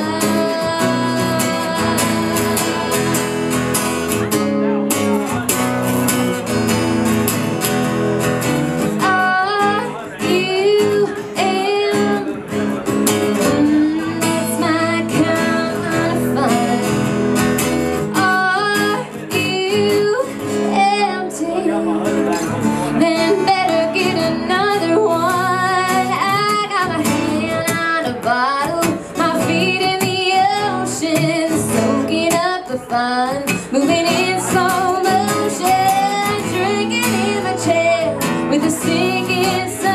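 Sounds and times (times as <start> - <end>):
woman singing country song: 0.0 - 5.0, 6.4 - 39.9
strummed acoustic guitars: 0.0 - 39.9.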